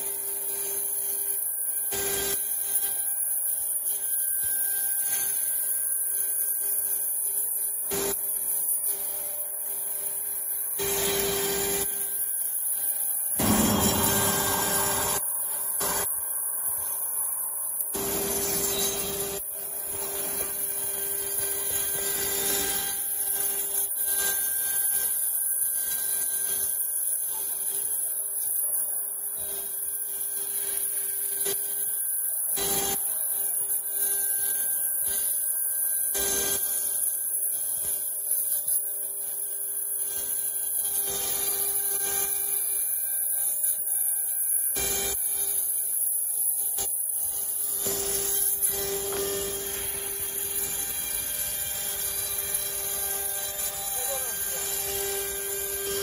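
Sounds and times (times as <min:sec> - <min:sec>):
router spindle milling wood: 0:00.0 - 0:56.0.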